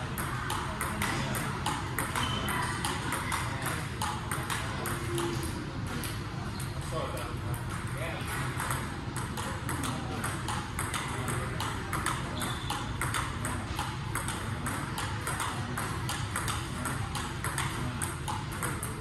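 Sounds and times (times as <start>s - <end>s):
table tennis ball clicking: 0.0s - 6.8s, 7.6s - 19.0s.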